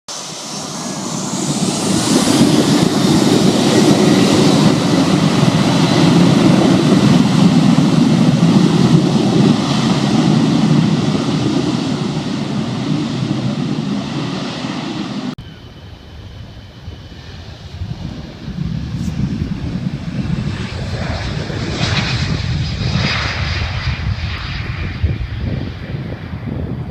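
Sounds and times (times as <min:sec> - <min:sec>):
aircraft engines rumbling: 0:00.1 - 0:26.9
high engine whine: 0:00.1 - 0:26.9.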